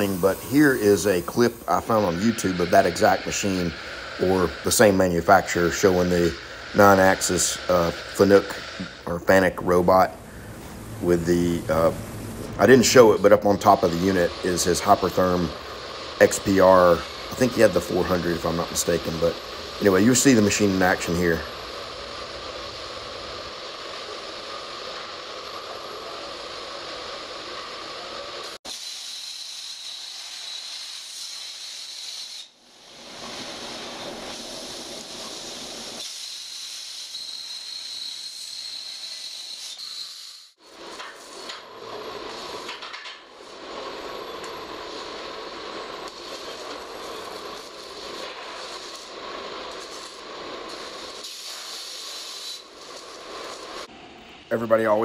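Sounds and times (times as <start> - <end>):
thin high whine: 0.0 - 28.8, 29.5 - 55.0
plasma torch hissing: 0.0 - 55.0.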